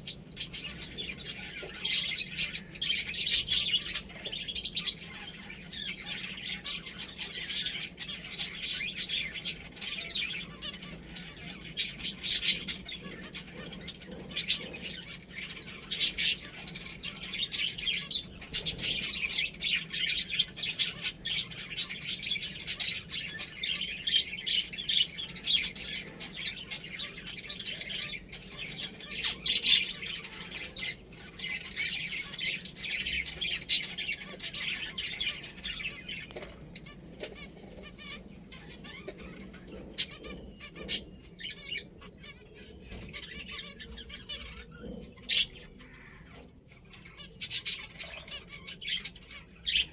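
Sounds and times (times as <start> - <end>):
finches chirping and chattering: 0.0 - 49.9.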